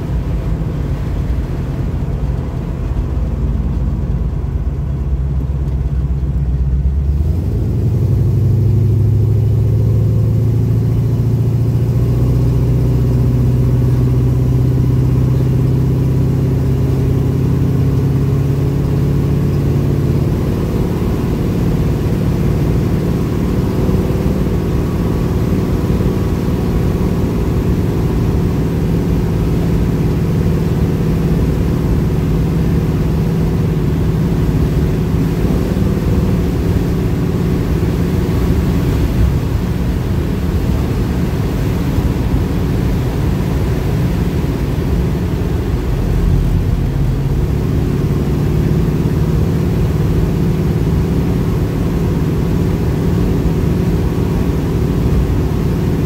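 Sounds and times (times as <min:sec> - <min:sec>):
car engine cruising: 0:00.0 - 0:56.0
road noise: 0:00.0 - 0:56.0.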